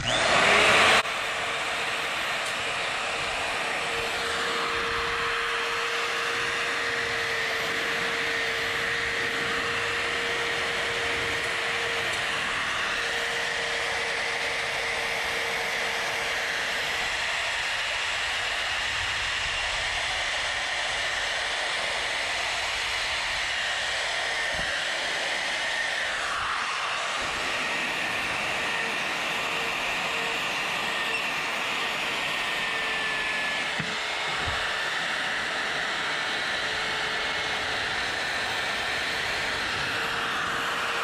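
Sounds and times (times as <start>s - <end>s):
die grinder grinding wood: 0.0s - 19.4s, 21.1s - 41.0s.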